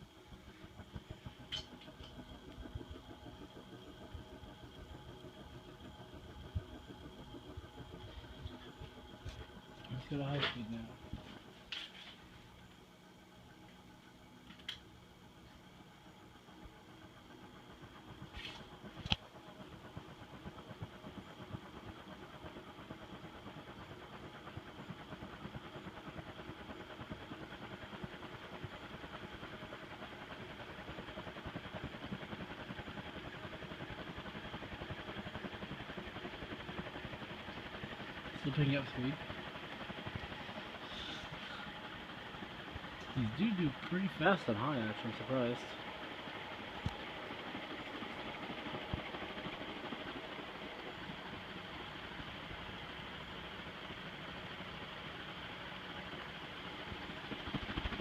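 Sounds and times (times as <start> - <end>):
ceiling fan humming: 0.0 - 58.0.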